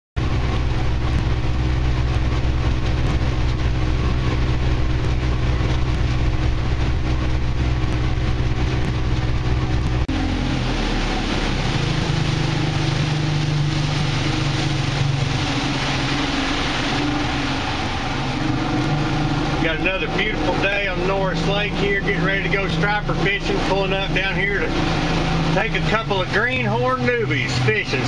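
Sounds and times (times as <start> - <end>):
engine running: 0.2 - 28.0.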